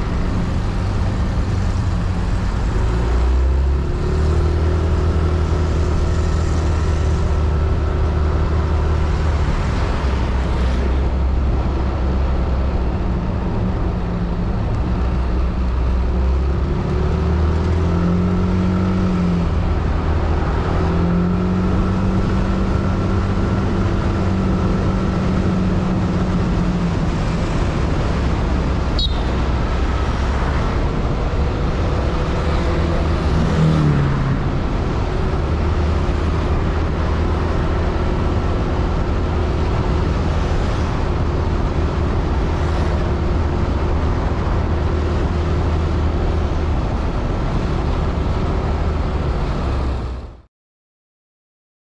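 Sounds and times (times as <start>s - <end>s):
street traffic noise: 0.0s - 50.5s.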